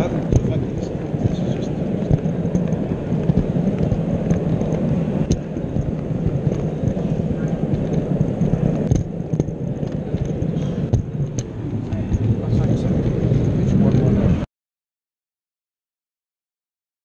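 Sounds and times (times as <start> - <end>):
model train rumbling on track: 0.0 - 14.4.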